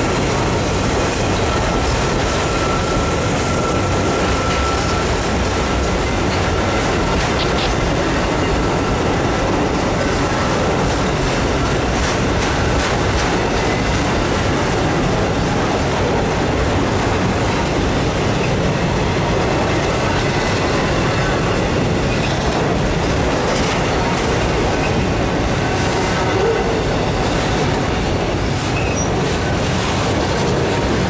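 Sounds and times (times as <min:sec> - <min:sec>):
rail clicks: 0:00.0 - 0:31.0
steel wheels rumbling on rails: 0:00.0 - 0:31.0.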